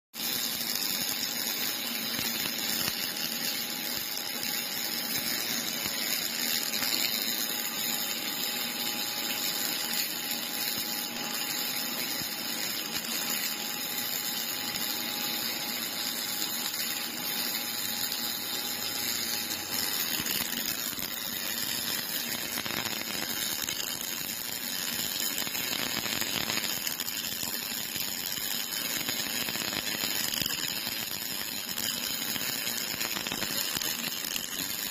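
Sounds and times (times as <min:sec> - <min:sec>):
welding arc crackling hiss: 0:00.2 - 0:34.9.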